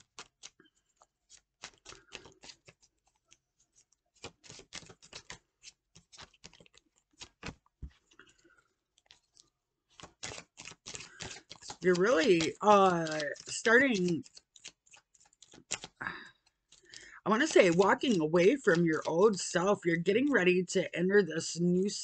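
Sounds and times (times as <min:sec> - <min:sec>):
cards shuffling: 0:00.0 - 0:20.4.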